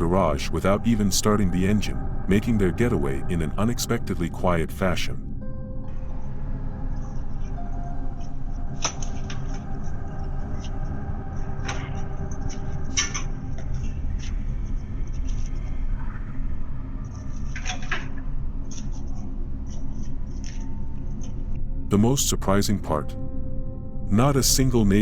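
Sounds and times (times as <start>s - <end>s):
steady low rumble: 0.0s - 17.6s, 18.2s - 25.0s.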